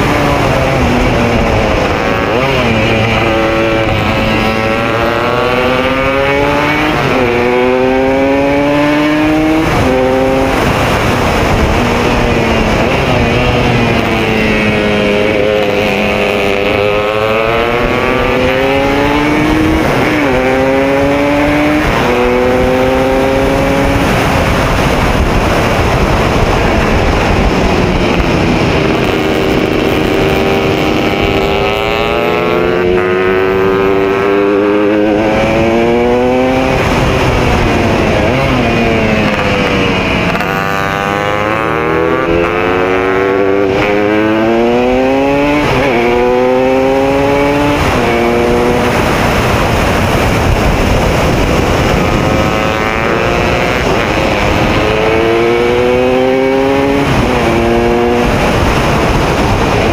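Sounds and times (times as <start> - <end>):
racing motorcycle engine revving: 0.0 - 59.9
wind rush on camera: 0.0 - 59.9.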